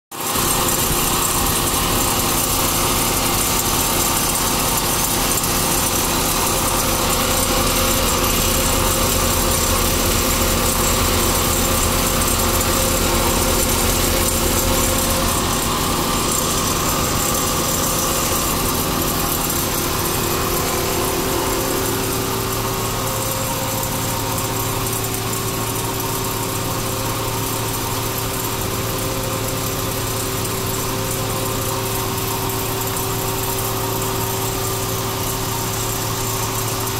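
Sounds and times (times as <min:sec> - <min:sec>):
machinery humming: 0:00.2 - 0:36.9.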